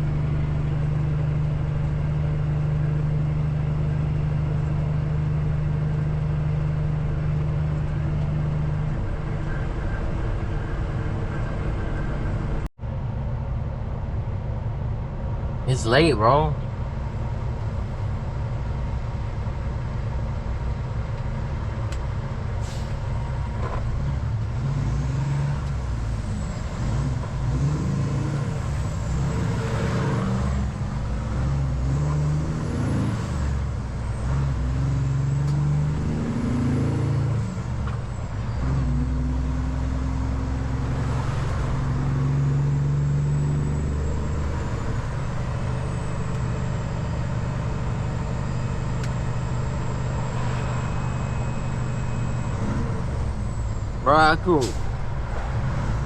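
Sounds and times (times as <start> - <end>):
road noise: 0.0 - 56.0
truck diesel engine: 0.0 - 56.0.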